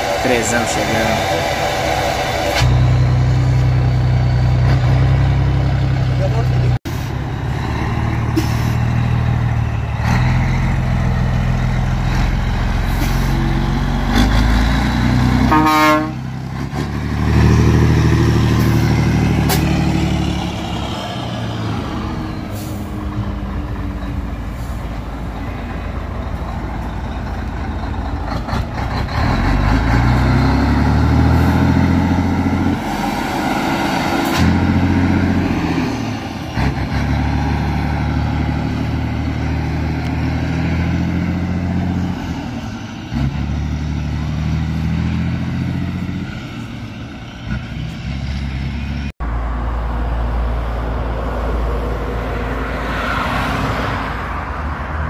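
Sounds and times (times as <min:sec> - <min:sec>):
diesel truck engine revving: 0:00.0 - 0:55.0.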